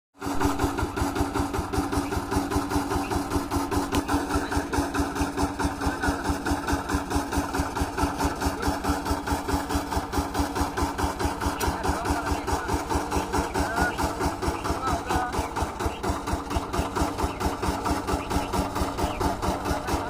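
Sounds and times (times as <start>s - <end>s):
diesel engine running: 0.2s - 20.0s.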